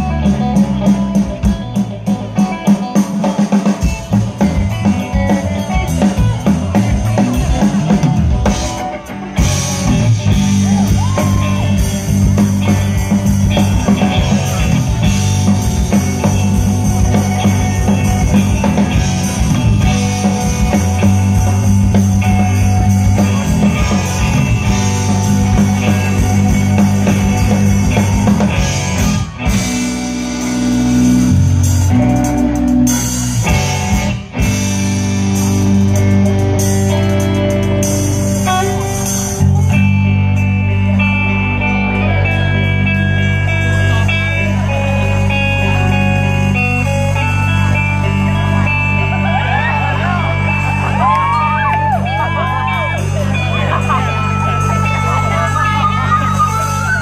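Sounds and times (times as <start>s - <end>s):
live rock band playing: 0.0s - 57.0s
held low bass notes: 3.9s - 57.0s.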